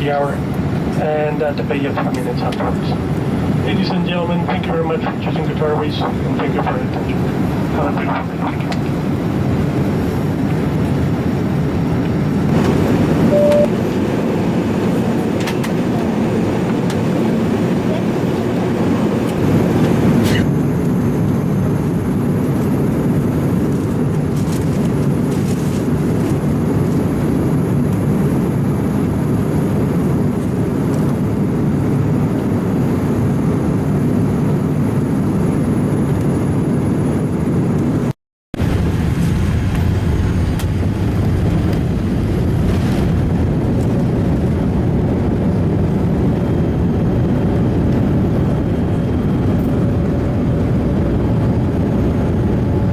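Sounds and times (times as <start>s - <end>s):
airplane cabin engine rumble: 0.0s - 52.9s.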